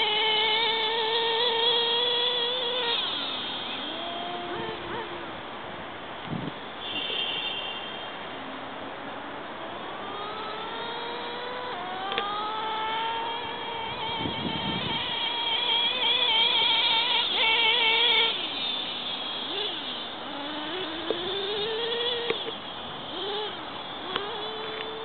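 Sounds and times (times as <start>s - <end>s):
model plane motor whining: 0.0s - 5.4s, 9.7s - 25.0s.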